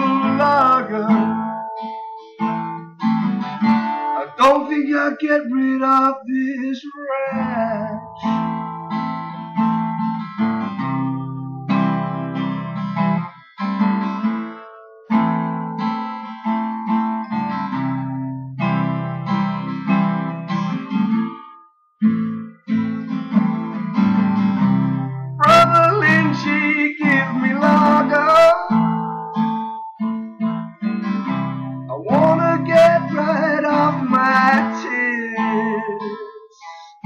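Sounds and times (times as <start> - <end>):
strummed guitar chords: 0.0 - 37.0.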